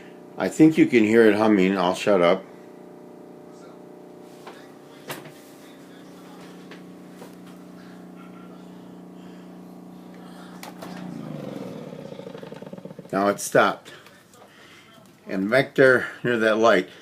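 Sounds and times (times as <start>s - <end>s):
refrigerator hum: 0.0s - 14.0s.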